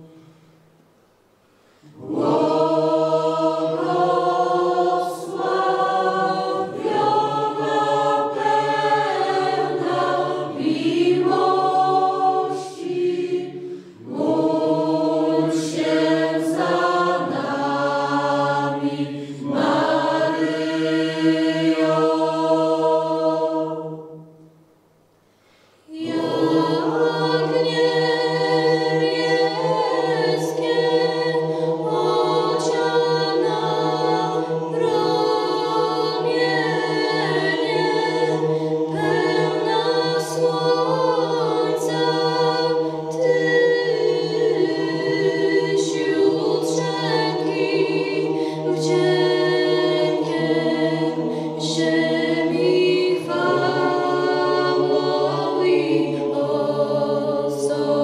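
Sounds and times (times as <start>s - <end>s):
choir singing: 0.0s - 0.2s, 1.8s - 24.6s, 25.9s - 58.0s.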